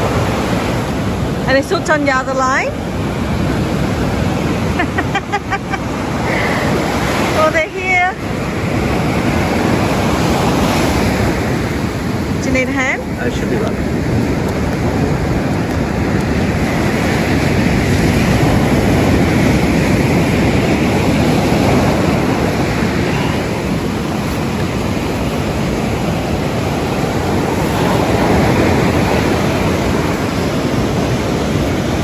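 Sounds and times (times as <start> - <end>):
surf breaking on beach: 0.0 - 32.0
wind buffeting microphone: 0.0 - 32.0.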